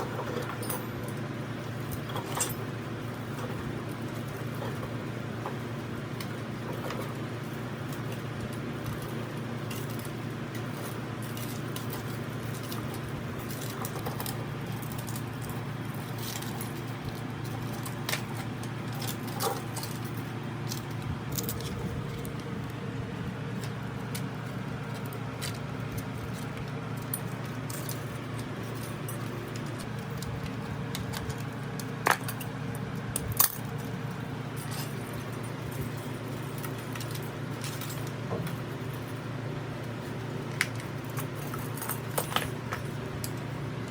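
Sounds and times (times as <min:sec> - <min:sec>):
small metal parts clinking: 0:00.0 - 0:43.9
steady low hum: 0:00.0 - 0:43.9.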